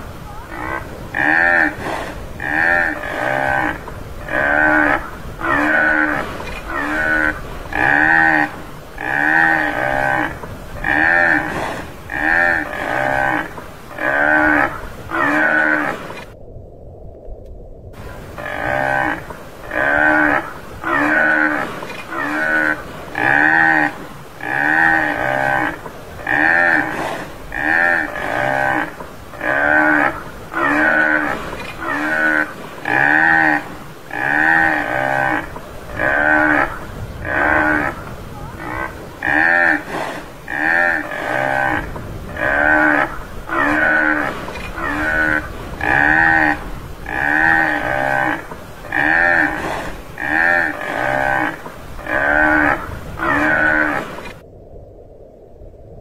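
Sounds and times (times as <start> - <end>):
buffalo calling: 0.1 - 16.2, 18.1 - 54.3.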